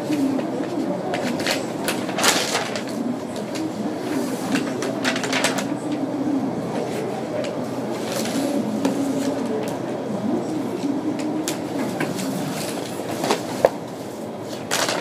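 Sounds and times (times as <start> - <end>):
faint indistinct voices: 0.0 - 15.0.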